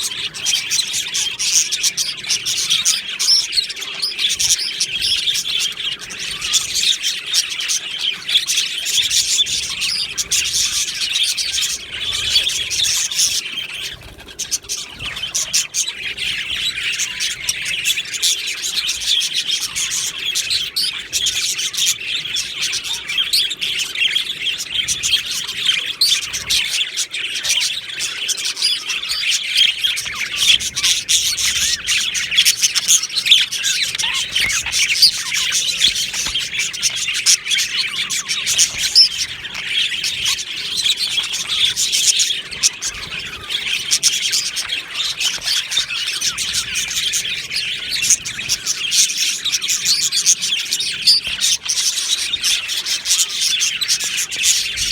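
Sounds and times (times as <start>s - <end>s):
budgerigars chirping and warbling: 0.0s - 54.9s.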